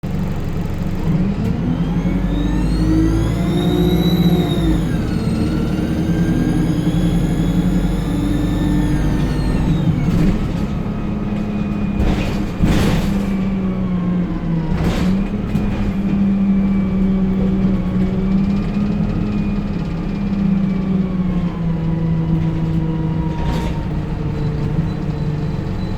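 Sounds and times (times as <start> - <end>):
bus diesel engine running: 0.0 - 25.9.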